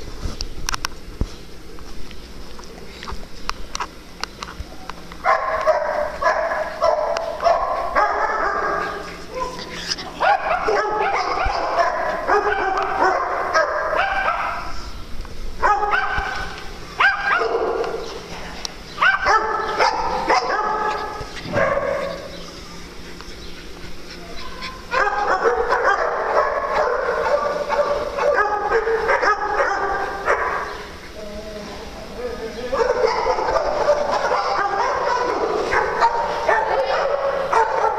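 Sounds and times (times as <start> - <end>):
dogs barking: 5.2 - 14.9, 15.6 - 37.9.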